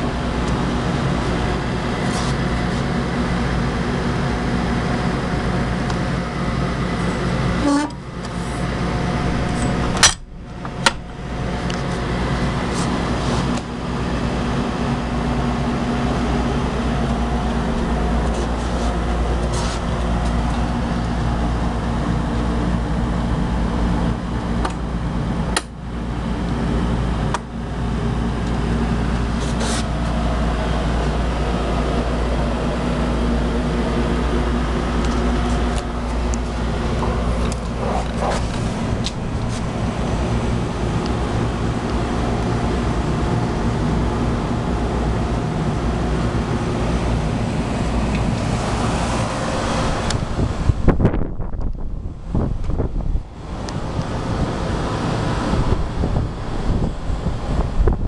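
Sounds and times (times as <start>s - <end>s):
air-conditioning hum: 0.0s - 58.0s.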